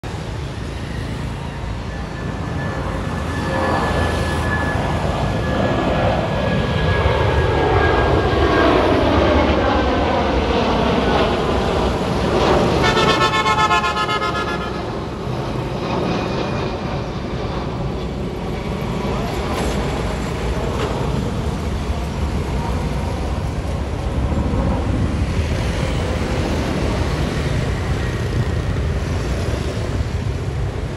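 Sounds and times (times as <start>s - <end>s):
jet engines whining and rumbling: 0.0s - 30.9s.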